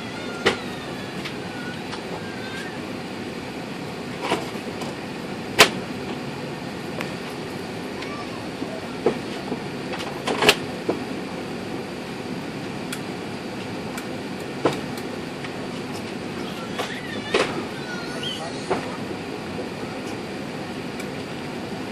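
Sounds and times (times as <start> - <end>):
aircraft cabin rumble and hiss: 0.0 - 21.9.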